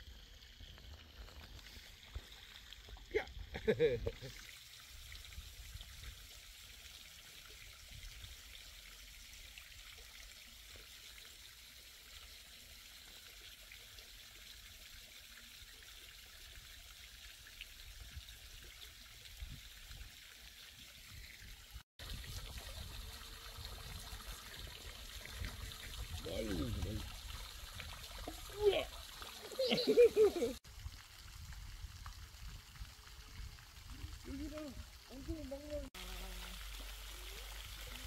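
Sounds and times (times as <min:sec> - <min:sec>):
running water trickling: 0:00.0 - 0:38.0.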